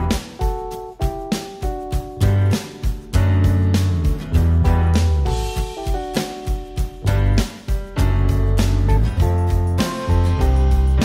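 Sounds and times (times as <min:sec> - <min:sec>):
guitar music with bass line: 0:00.0 - 0:11.0.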